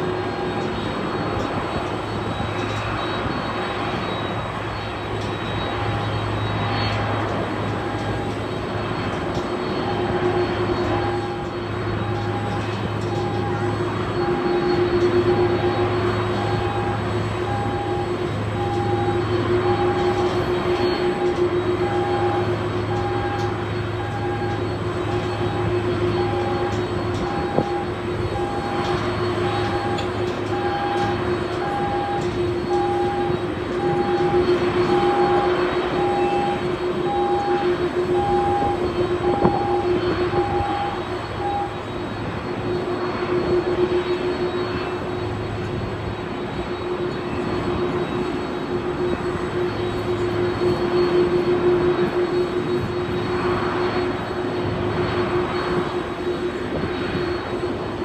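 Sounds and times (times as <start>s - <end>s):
jet engine whine: 0.0s - 58.0s
low hum: 0.0s - 58.0s
repeating warning beep: 0.0s - 58.0s.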